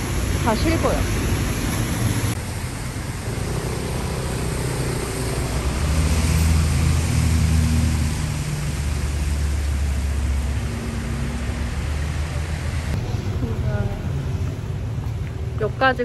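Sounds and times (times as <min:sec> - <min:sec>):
traffic hissing on wet road: 0:00.0 - 0:16.0.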